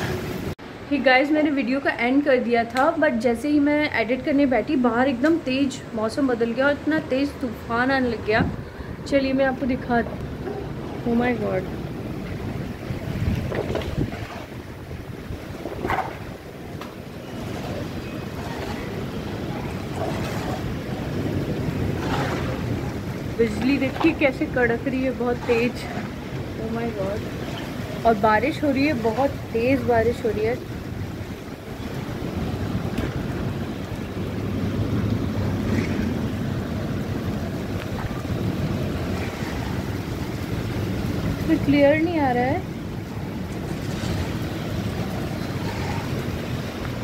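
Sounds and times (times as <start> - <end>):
heavy rain falling: 0.0 - 0.7, 5.4 - 47.0
wind buffeting microphone: 1.4 - 47.0.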